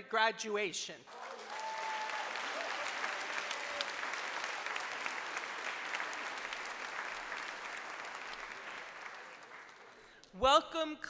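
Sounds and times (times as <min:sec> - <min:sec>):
audience applauding: 0:01.1 - 0:10.3.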